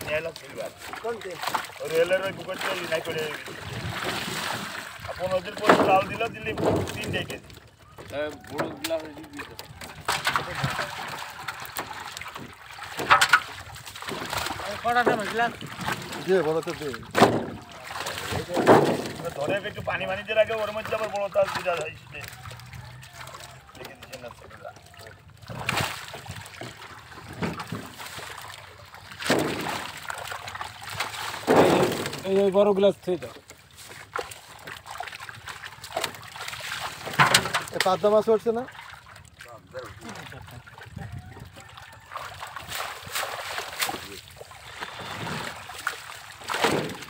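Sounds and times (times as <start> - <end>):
water splashing around net: 0.0 - 47.0.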